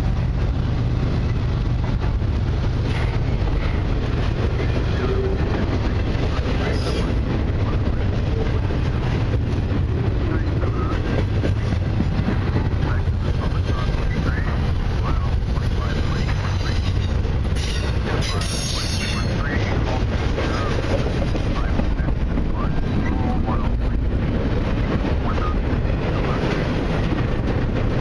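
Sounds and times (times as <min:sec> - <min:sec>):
freight cars rattling: 0:00.0 - 0:28.0
train wheels rumbling on rails: 0:00.0 - 0:28.0.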